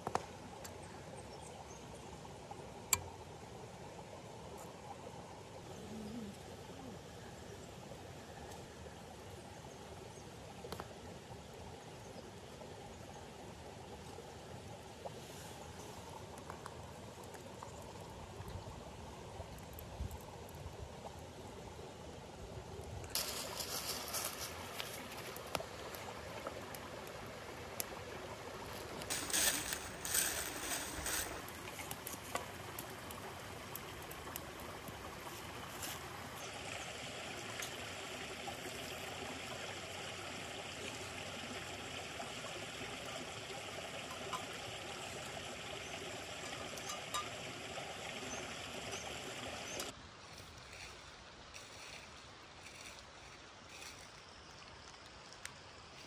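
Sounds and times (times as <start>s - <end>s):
creek trickling over stones: 0.0s - 56.0s.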